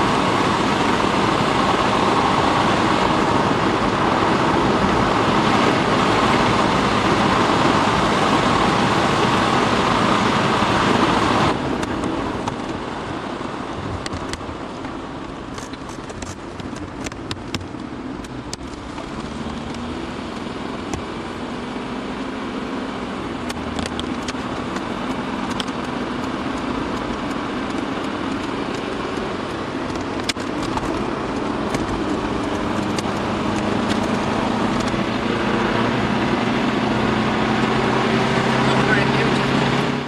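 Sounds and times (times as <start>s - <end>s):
car engine and tyre noise: 0.0s - 40.0s.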